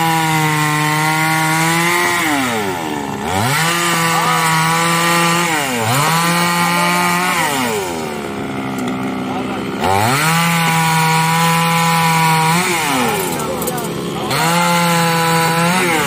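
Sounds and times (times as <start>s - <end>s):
chainsaw cutting log and revving: 0.0s - 16.0s.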